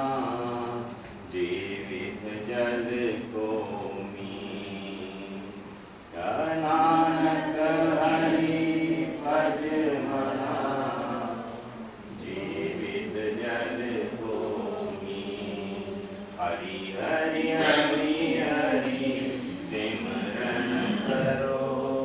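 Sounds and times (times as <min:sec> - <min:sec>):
group chanting devotional song: 0:00.0 - 0:22.0.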